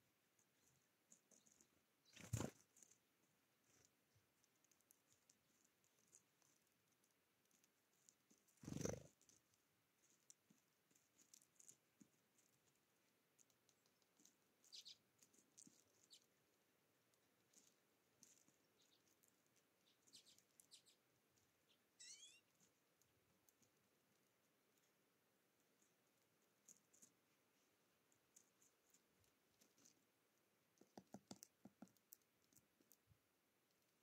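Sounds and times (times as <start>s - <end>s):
bird pecking at seeds: 0.0s - 34.0s.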